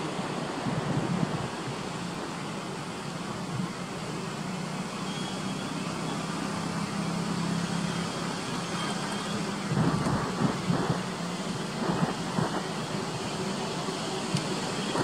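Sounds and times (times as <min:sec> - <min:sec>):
distant surf: 0:00.0 - 0:15.0
wind hiss: 0:00.0 - 0:15.0.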